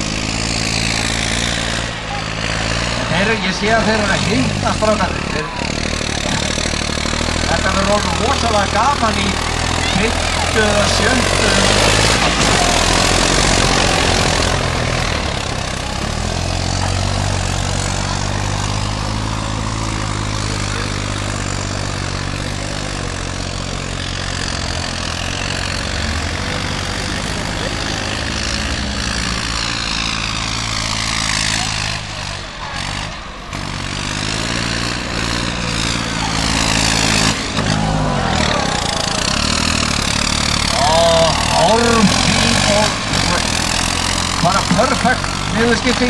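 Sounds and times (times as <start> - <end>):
tractor engine working hard: 0.0 - 46.0.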